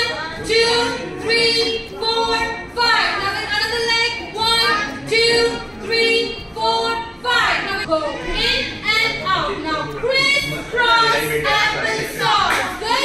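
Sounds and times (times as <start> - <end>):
woman singing rhythmic song: 0.0 - 13.0.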